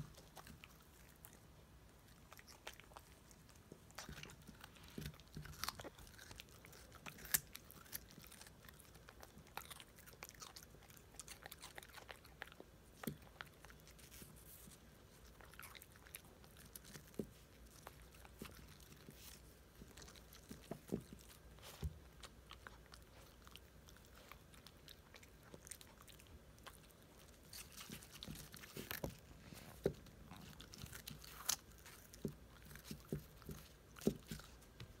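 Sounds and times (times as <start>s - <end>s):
dog crunching radish: 0.0s - 35.0s.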